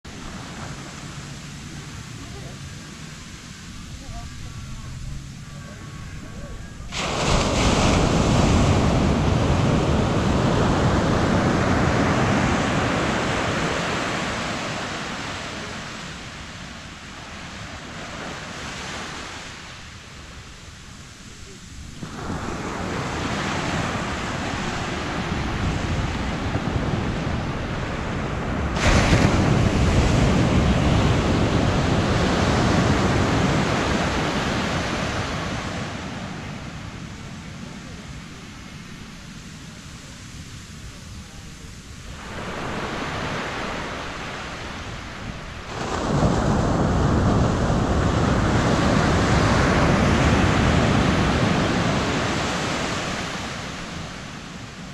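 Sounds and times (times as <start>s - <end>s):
waves breaking on beach: 0.1s - 54.9s.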